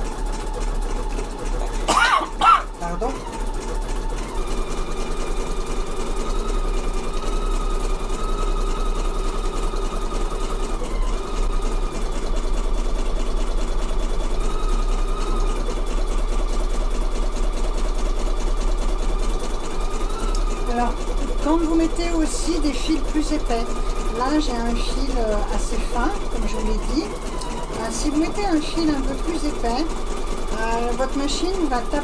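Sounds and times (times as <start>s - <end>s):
motor whine: 0.0s - 32.0s.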